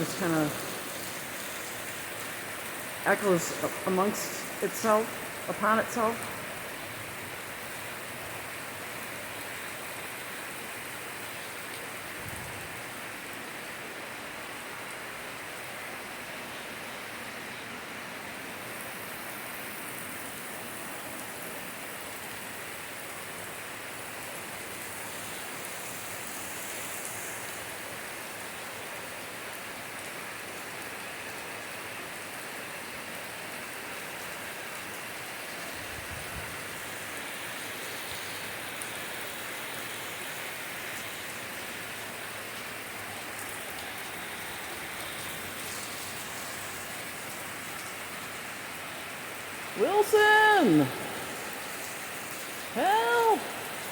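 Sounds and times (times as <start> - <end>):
water rushing downhill: 0.0 - 16.5, 17.2 - 53.9
rain hissing: 0.0 - 53.9
wind: 0.0 - 53.9.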